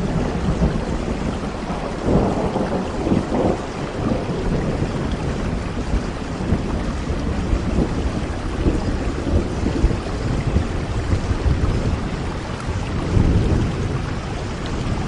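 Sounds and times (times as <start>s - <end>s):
heavy rain falling: 0.0s - 15.0s
low rumble of thunder: 0.0s - 15.0s.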